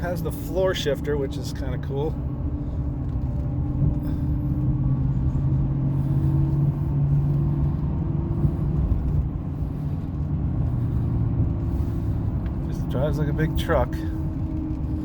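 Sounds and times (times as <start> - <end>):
pickup engine drone: 0.0 - 15.0
road rumble: 0.0 - 15.0.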